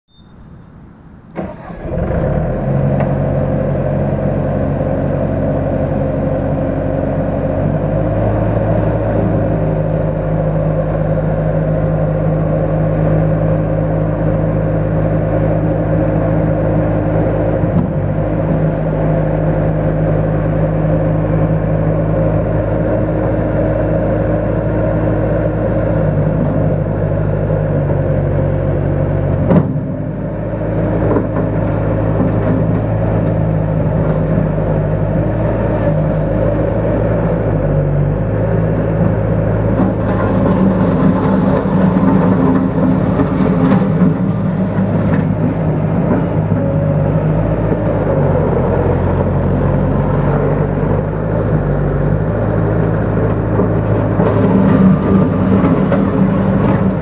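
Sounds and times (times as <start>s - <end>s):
diesel engine cranking and running: 0.1s - 57.0s.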